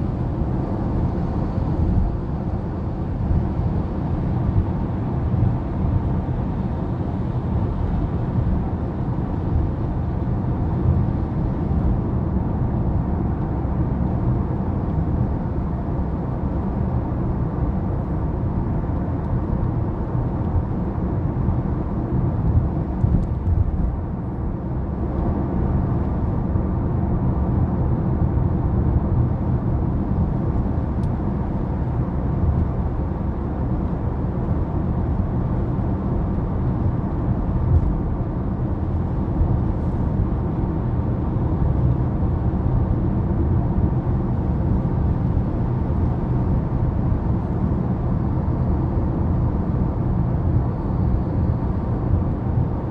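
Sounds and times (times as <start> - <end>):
vehicle driving rumble: 0.0 - 52.9.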